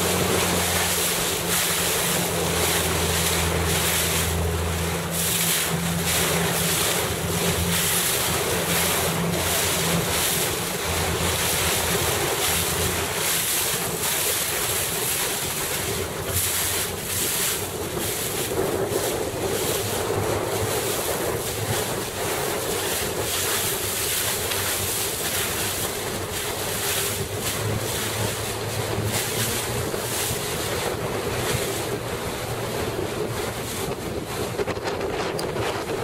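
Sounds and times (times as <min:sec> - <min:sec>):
choppy water splashing: 0:00.0 - 0:36.0
wind buffeting microphone: 0:00.0 - 0:36.0.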